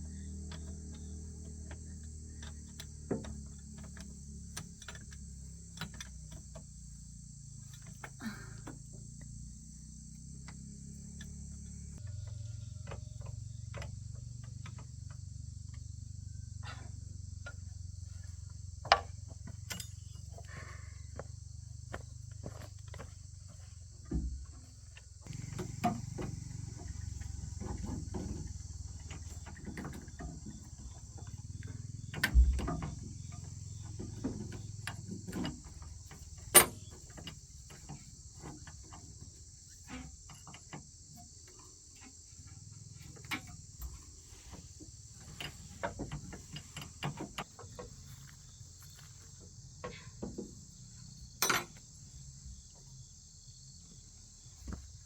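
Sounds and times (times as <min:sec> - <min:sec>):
high insect chorus: 0:00.0 - 0:55.0.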